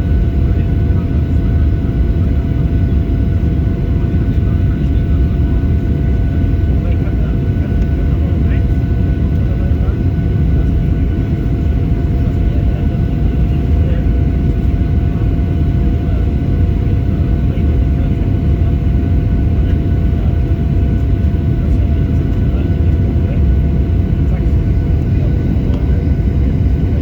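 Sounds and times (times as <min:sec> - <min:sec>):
jet engine roar in cabin: 0:00.0 - 0:27.0.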